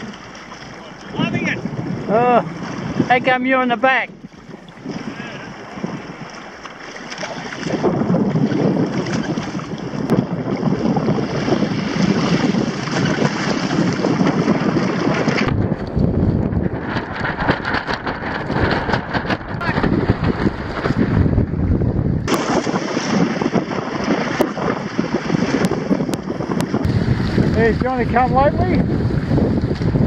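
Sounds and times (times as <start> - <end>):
water rushing and splashing: 0.0 - 21.0, 22.2 - 30.0
wind buffeting microphone: 0.0 - 30.0.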